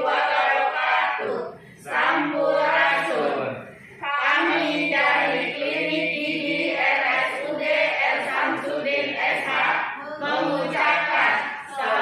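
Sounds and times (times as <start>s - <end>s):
group of voices singing: 0.0s - 12.0s.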